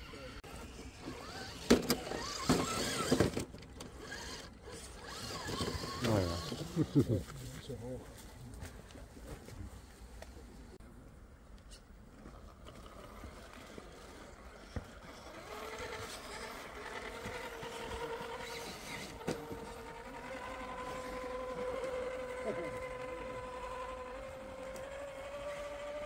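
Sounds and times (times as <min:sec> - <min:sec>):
electric motor and gearbox whining: 0:00.0 - 0:07.3, 0:12.3 - 0:26.0.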